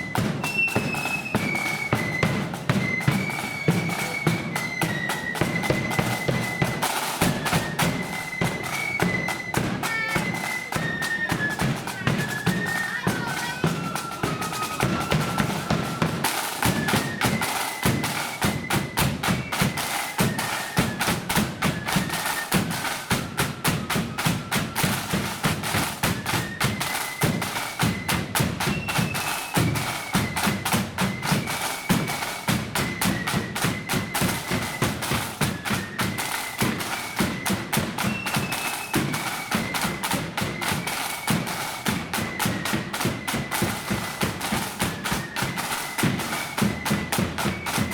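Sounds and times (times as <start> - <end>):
high-pitched wind instruments: 0.0 - 47.9
snare drumming: 0.0 - 47.9.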